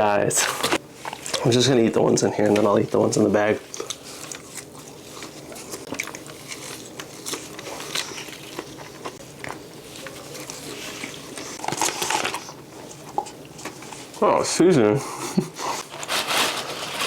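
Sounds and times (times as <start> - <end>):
chewing crunchy fries: 0.4 - 14.2.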